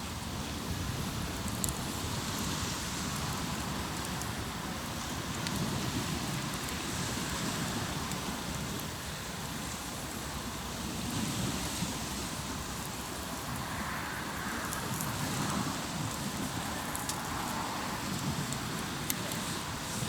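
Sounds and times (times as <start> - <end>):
campfire crackling and popping: 0.0 - 20.0
waves breaking on shore: 0.0 - 20.0.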